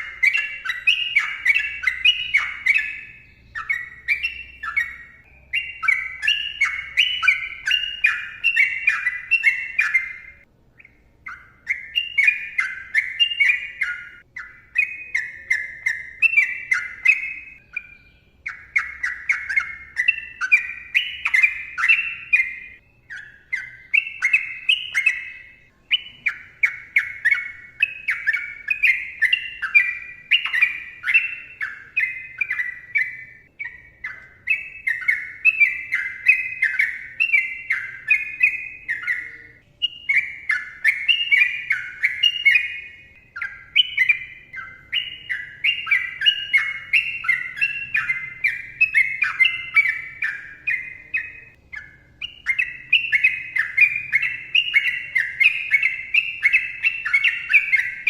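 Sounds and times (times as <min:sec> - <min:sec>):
bird singing chattering notes: 0:00.0 - 0:58.0.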